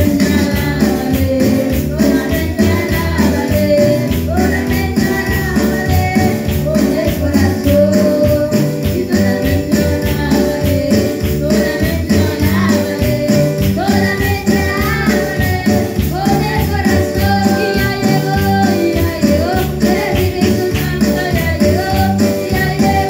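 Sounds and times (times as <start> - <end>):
electronic keyboard: 0.0 - 23.0
girl singing into microphone: 0.0 - 23.0
steady percussion beat: 0.0 - 23.0.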